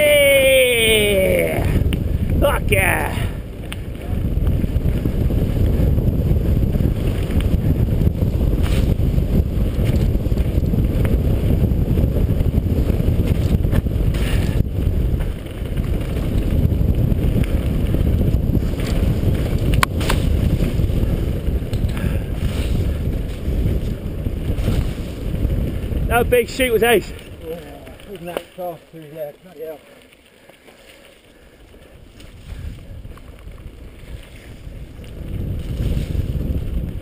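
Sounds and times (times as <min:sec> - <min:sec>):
bike tyres rumbling: 0:00.0 - 0:37.0
wind buffeting microphone: 0:00.0 - 0:37.0.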